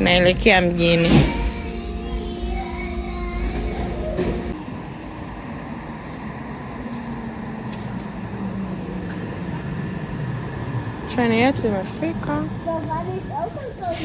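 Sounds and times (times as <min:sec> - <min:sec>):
low hum falling in pitch: 0:00.0 - 0:11.6
train rumble: 0:00.0 - 0:14.0.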